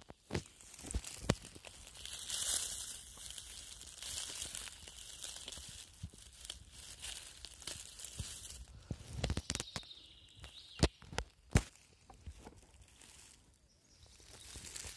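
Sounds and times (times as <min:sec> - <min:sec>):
dry leaves rustling: 0:00.0 - 0:14.9.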